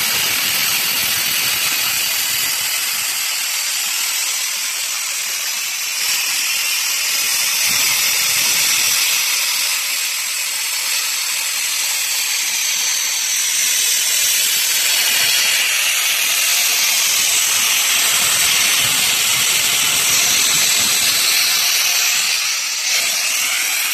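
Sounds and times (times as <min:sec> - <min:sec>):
sandblaster hissing: 0:00.0 - 0:23.9.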